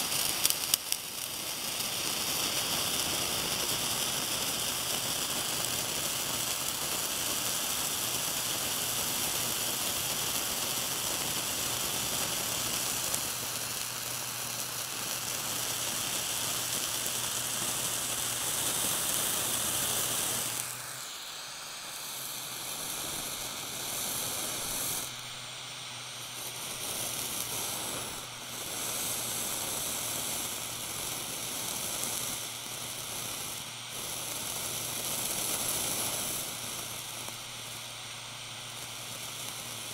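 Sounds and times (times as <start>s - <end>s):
blowtorch flame hissing: 0.0s - 39.9s
cheese sizzling: 0.0s - 39.9s.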